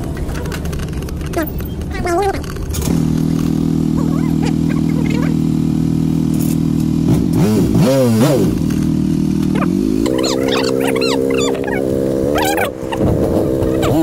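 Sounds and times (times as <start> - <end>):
engine throttle blips: 0.0 - 14.0
motorcycle engine idling: 0.0 - 14.0.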